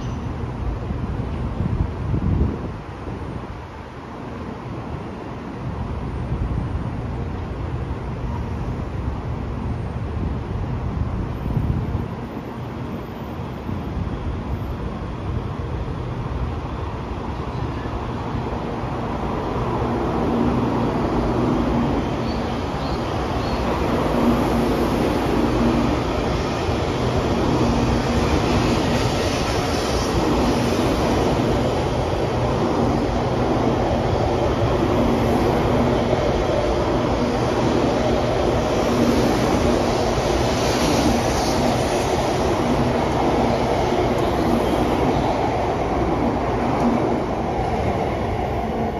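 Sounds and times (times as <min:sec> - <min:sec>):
train running noise: 0:00.0 - 0:48.9.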